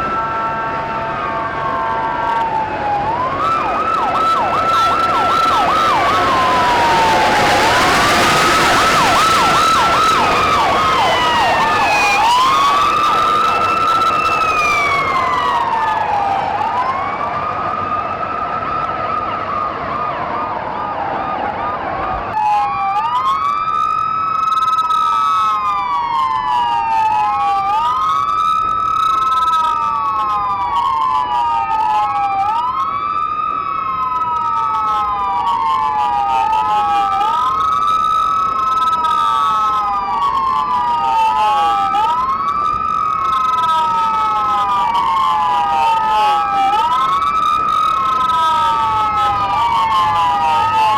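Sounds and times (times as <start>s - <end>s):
police sirens wailing: 0.0s - 50.9s.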